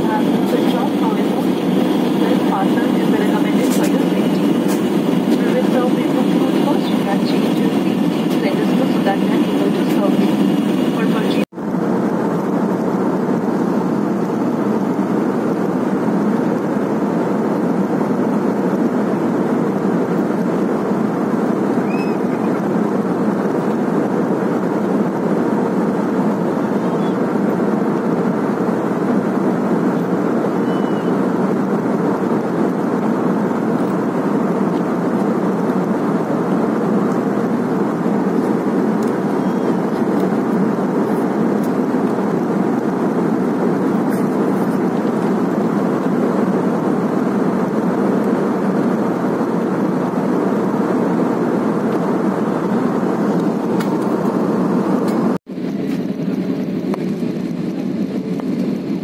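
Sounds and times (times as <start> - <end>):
airliner cabin engine and airflow noise: 0.0 - 59.0.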